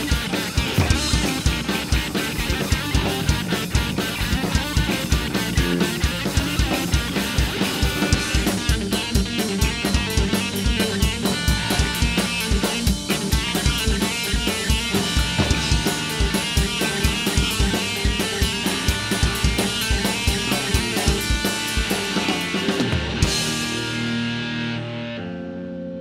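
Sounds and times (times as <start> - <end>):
drum kit beat: 0.0 - 24.5
bass guitar: 0.0 - 26.0
electric guitar: 0.0 - 26.0.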